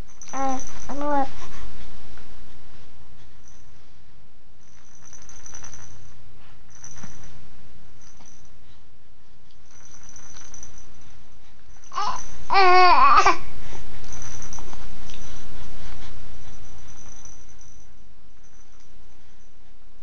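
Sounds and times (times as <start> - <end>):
faint rustling: 0.0 - 20.0.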